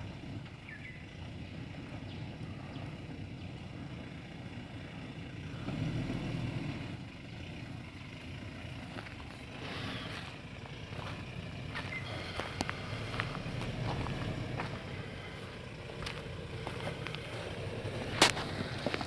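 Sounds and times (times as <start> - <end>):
truck engine running low: 0.0 - 19.0.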